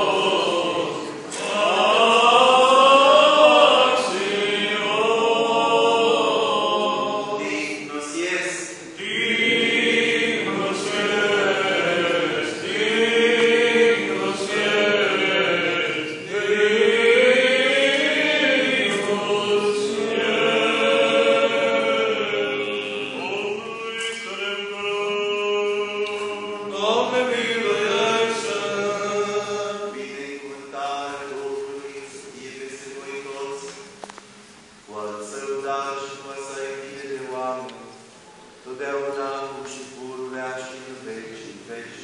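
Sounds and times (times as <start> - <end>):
voices chanting a hymn: 0.0 - 34.2, 34.8 - 42.0.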